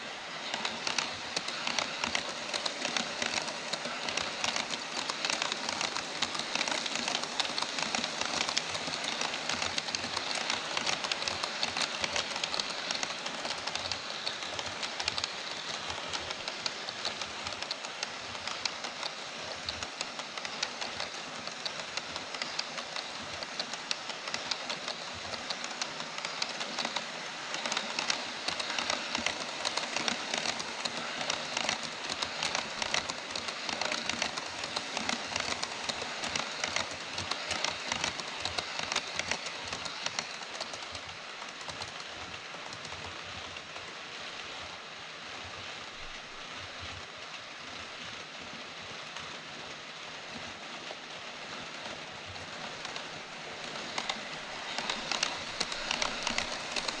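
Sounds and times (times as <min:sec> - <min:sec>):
model train wheels rattling: 0:00.0 - 0:44.8, 0:47.8 - 0:57.0.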